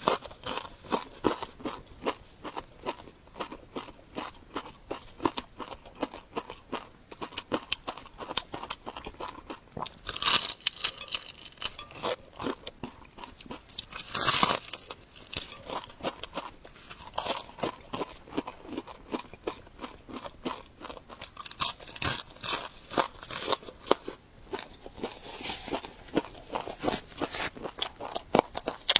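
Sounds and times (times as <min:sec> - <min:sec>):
chewing with wet mouth clicks: 0:00.0 - 0:14.0, 0:14.6 - 0:28.9
crunching: 0:00.0 - 0:28.9.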